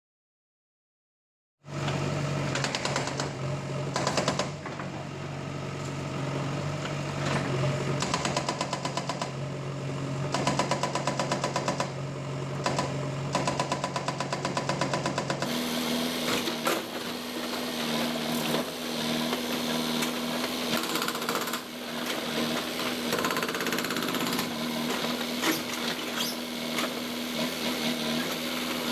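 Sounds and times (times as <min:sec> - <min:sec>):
diesel engine under load: 0:01.7 - 0:28.9
hydraulic breaker hammering: 0:02.5 - 0:05.1, 0:07.2 - 0:09.4, 0:10.3 - 0:28.9.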